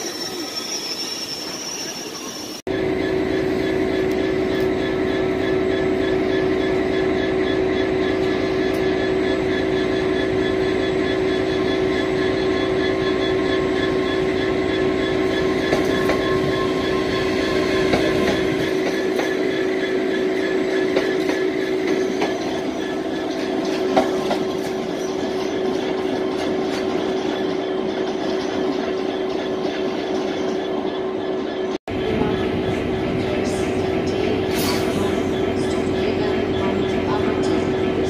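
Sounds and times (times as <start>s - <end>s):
train mechanical drone: 0.0s - 38.0s.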